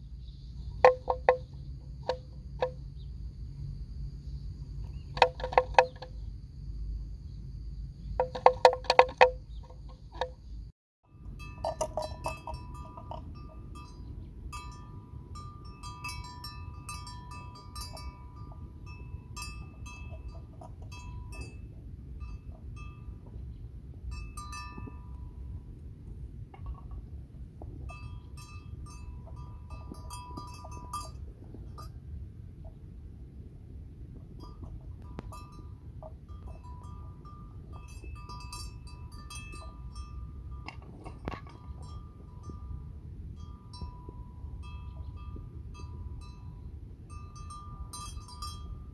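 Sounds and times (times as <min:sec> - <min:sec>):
livestock bells clinking: 0:00.8 - 0:02.8, 0:05.0 - 0:06.1, 0:08.2 - 0:10.3, 0:11.1 - 0:25.8, 0:26.5 - 0:32.2, 0:34.3 - 0:48.9.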